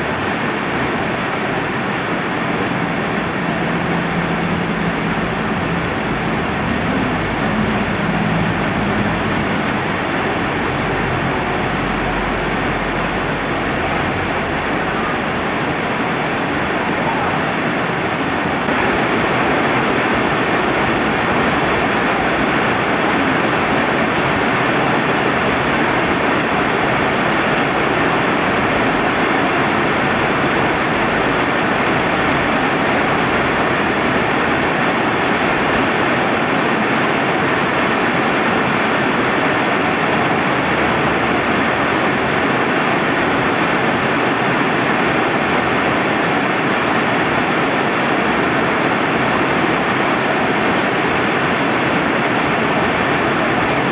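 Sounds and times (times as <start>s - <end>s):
rain falling: 0.0s - 53.9s
river running: 0.0s - 53.9s.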